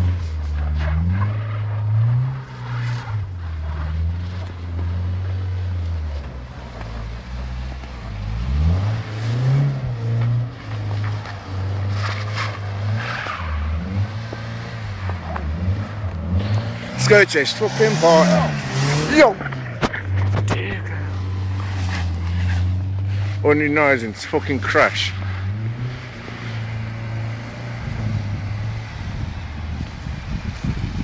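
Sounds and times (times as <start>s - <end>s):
wheels spinning in snow: 0.0s - 20.2s, 20.8s - 31.0s
car engine revving: 0.0s - 31.0s.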